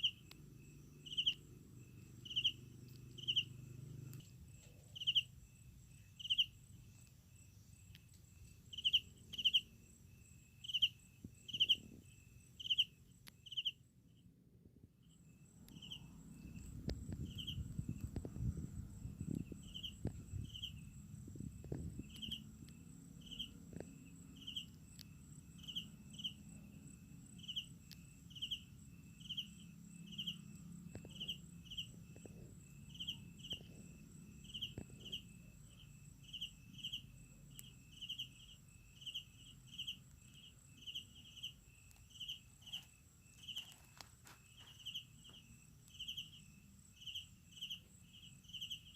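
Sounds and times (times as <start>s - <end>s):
crickets chirping: 0.0s - 48.9s
high-pitched insect trill: 0.0s - 48.9s.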